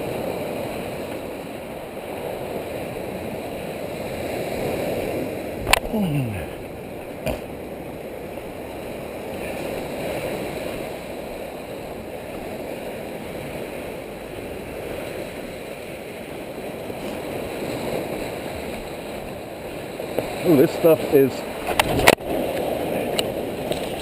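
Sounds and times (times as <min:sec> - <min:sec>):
ocean surf: 0:00.0 - 0:24.0
wind: 0:00.0 - 0:24.0.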